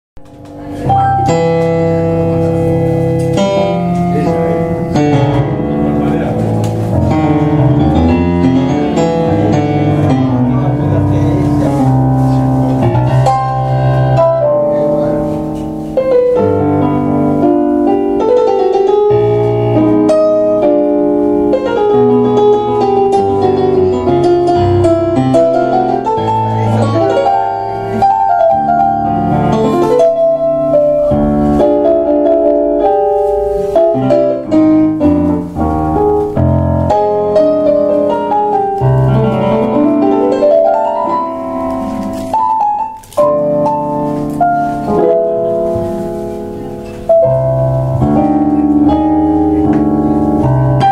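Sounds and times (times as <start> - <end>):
tango on two pianos: 0.2 - 50.9.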